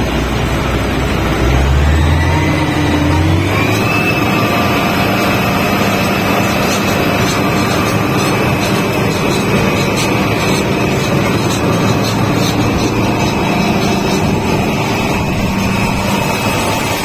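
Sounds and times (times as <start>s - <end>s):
combine harvester machinery running: 0.0s - 17.0s
high machine whine: 0.0s - 17.0s.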